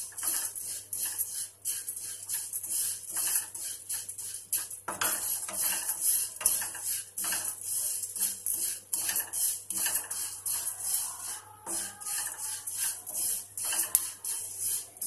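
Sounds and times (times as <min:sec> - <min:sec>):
spatula scraping frying pan: 0:00.0 - 0:15.0.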